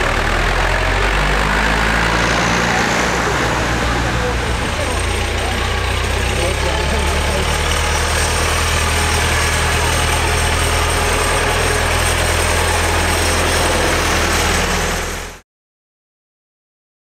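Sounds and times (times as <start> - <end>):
diesel tractor engine running: 0.0 - 15.4.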